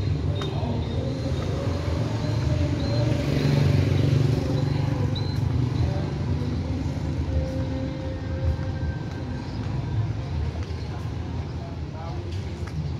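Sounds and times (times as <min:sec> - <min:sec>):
low traffic rumble: 0:00.0 - 0:12.9.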